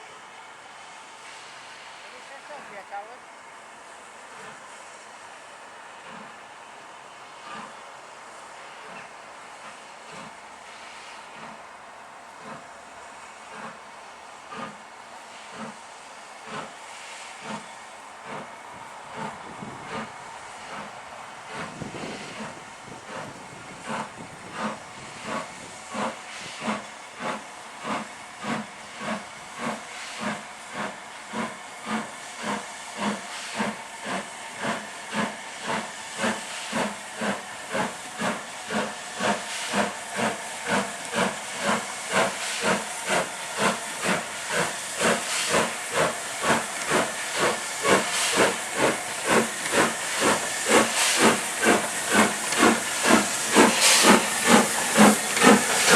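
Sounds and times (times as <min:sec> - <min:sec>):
steam locomotive chuffing: 0:00.0 - 0:55.9.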